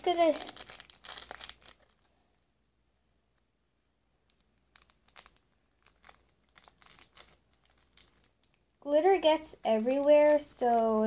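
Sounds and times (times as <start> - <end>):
plastic packet crinkling: 0.0 - 2.5, 4.2 - 11.0.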